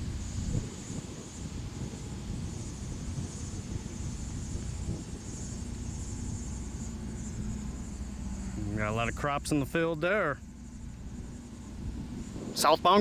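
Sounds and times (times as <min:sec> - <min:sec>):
crickets chirping: 0:00.0 - 0:13.0
freight train rumbling past: 0:00.0 - 0:13.0.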